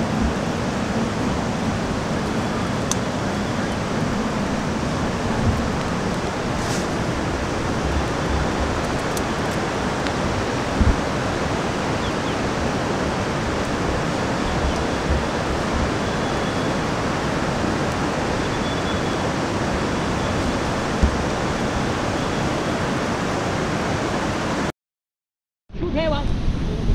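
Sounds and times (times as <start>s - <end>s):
steady rushing hiss: 0.0s - 24.7s
wind buffeting microphone: 0.0s - 24.7s.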